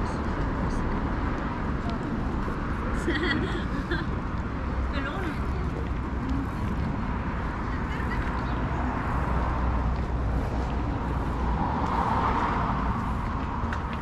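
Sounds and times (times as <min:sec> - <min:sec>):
road traffic going by: 0:00.0 - 0:14.0
vehicle tyre noise passing: 0:00.0 - 0:14.0.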